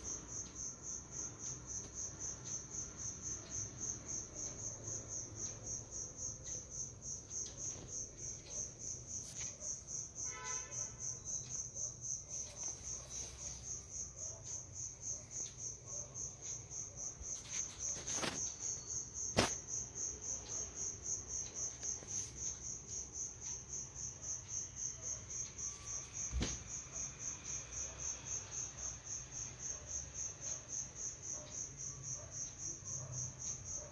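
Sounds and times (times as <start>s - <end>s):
cricket chirping: 0.0s - 33.9s.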